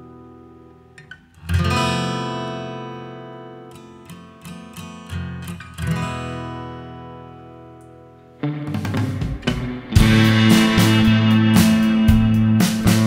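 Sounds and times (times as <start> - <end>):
acoustic guitar strummed and plucked: 0.0 - 13.0.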